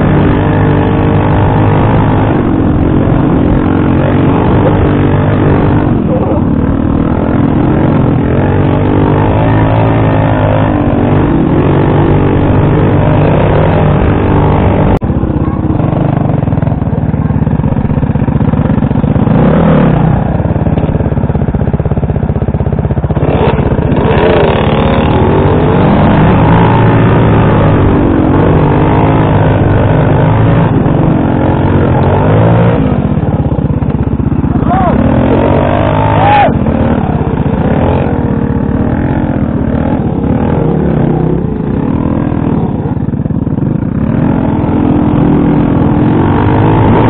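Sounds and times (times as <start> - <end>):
motorbike engines revving: 0.0 - 47.0.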